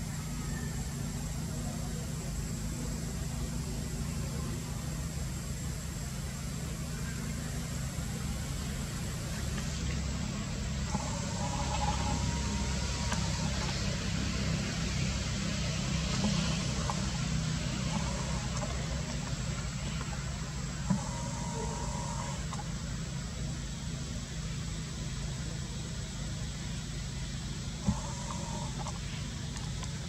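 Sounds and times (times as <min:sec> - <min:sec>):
low rumble with hiss: 0:00.0 - 0:30.0.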